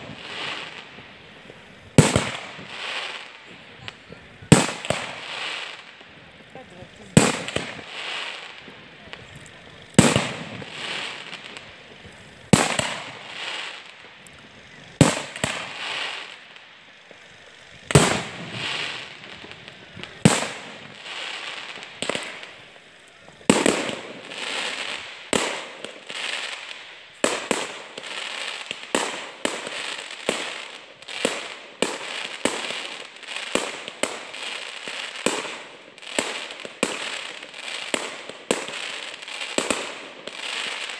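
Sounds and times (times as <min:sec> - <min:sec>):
fireworks bursting with bangs: 0:00.0 - 0:40.9
fireworks crackling: 0:00.0 - 0:40.9.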